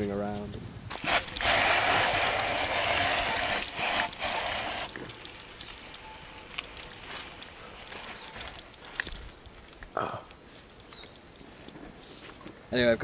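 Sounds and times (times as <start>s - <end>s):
rustling hiss: 0.2s - 13.0s
insects droning: 0.9s - 13.0s.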